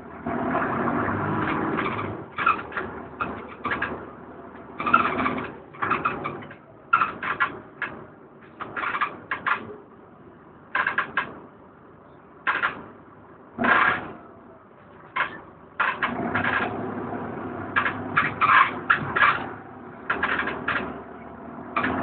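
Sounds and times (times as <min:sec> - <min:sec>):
bus engine drone: 0:00.0 - 0:22.0
bus panels rattling: 0:00.1 - 0:22.0.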